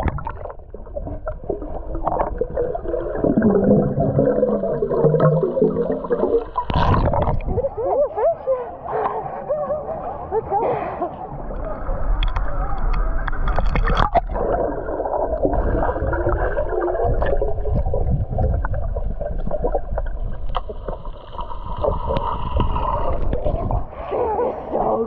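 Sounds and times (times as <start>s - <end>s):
underwater gurgling and bubbling: 0.0s - 8.1s, 11.2s - 24.1s.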